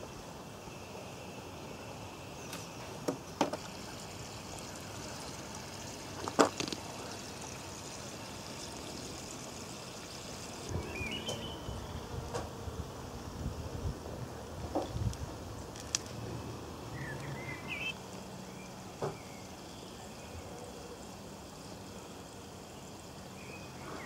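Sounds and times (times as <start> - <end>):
faint outdoor hiss: 0.0 - 24.0.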